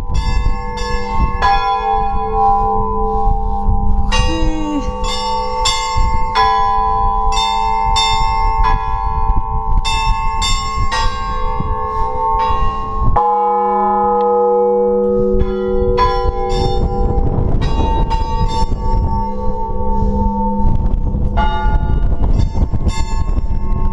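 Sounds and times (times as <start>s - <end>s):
large bells ringing: 0.0s - 23.9s.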